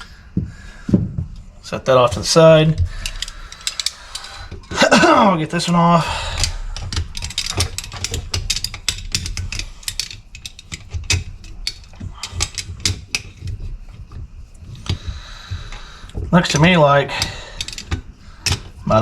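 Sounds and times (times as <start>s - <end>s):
metal tools clicking and clinking: 1.8s - 19.0s.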